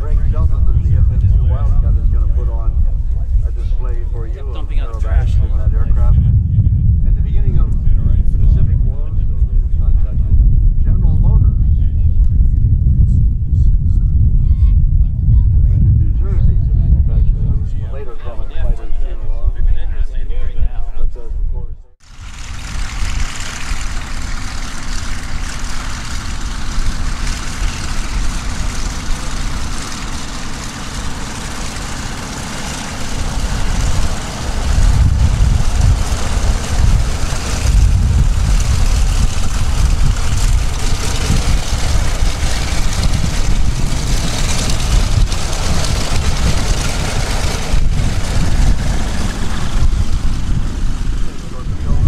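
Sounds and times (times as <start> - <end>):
propeller plane engine running: 0.0 - 18.5, 21.9 - 52.0.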